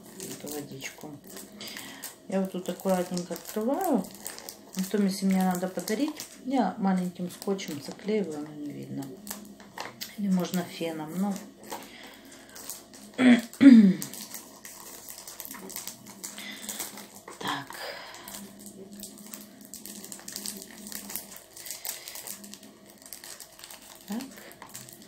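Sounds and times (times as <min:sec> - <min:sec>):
plastic film crackling: 0:00.0 - 0:25.0.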